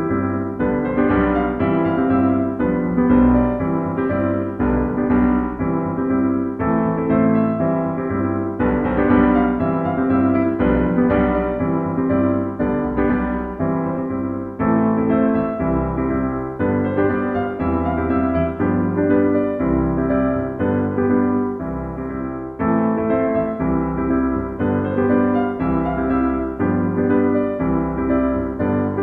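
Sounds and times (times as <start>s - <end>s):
piano background music: 0.0s - 29.0s.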